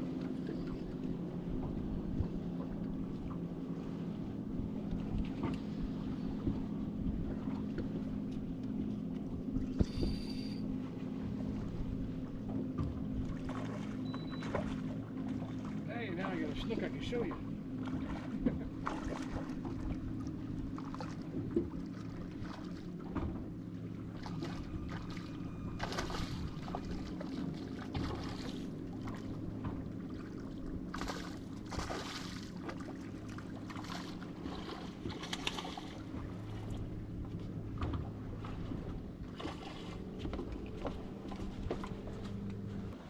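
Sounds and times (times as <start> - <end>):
outboard motor idling: 0.0 - 43.0.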